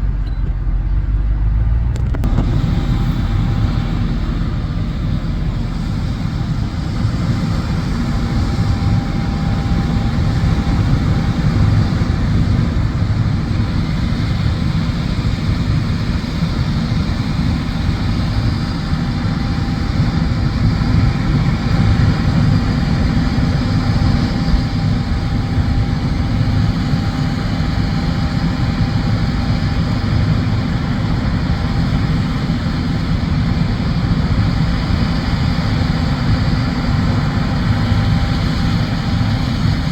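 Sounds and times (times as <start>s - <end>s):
combine harvester rumbling: 0.0s - 39.9s
faint whine: 0.0s - 39.9s.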